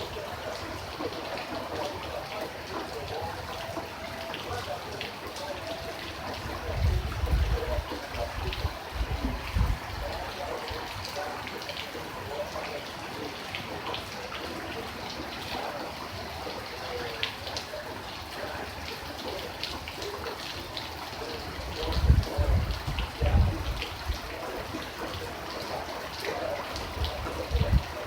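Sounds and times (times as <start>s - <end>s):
rain falling: 0.0s - 28.0s
raindrops tapping: 0.0s - 28.0s.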